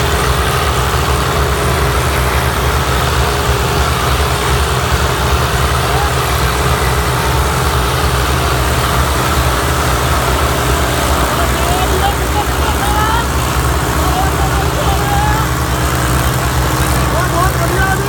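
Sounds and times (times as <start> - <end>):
tractor diesel engines running: 0.0 - 18.0.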